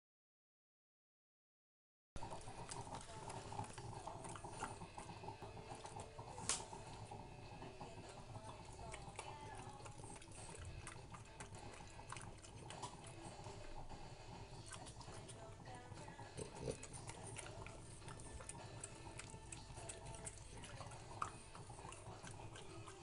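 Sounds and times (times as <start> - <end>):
dog licking and chewing: 2.2 - 23.0.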